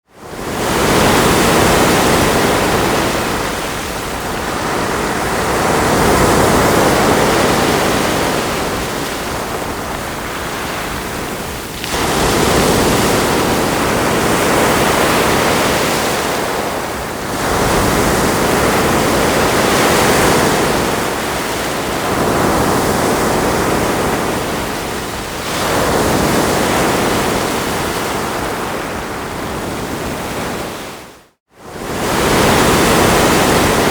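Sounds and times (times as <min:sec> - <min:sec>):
ocean surf breaking on shore: 0:00.1 - 0:33.9.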